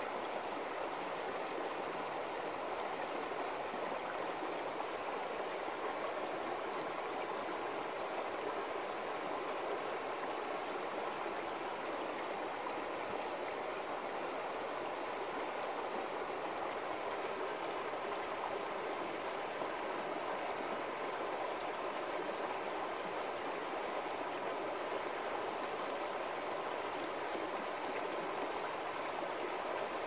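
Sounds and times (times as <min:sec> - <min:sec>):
river babbling over stones: 0:00.0 - 0:30.0.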